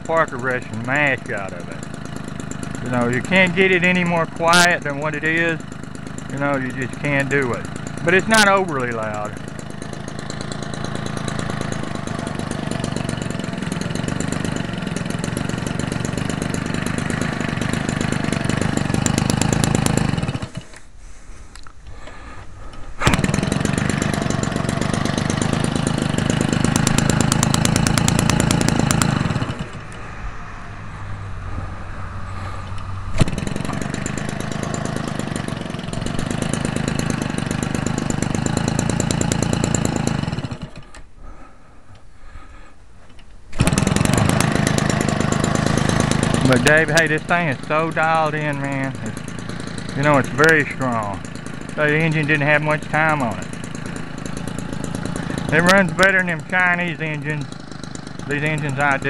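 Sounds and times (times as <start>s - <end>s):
two-stroke engine revving: 0.0s - 20.8s, 22.0s - 41.5s, 43.5s - 59.0s.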